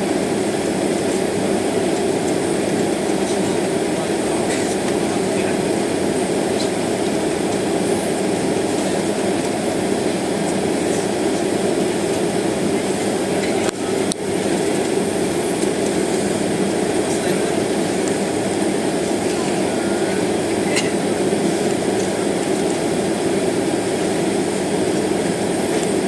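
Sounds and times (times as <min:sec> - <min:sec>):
aircraft rolling on taxiway: 0:00.0 - 0:26.0
jet engines at taxi power: 0:00.0 - 0:26.0.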